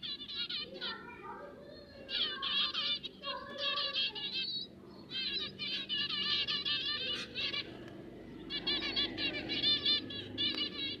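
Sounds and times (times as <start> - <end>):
chicks begging chirps: 0.0 - 11.0.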